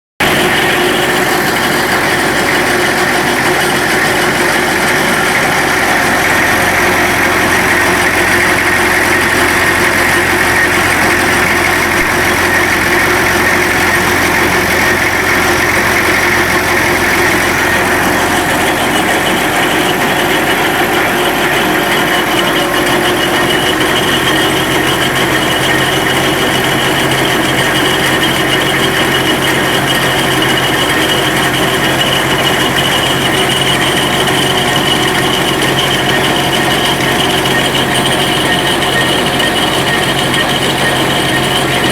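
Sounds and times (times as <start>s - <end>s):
diesel engine idling: 0.2s - 41.9s.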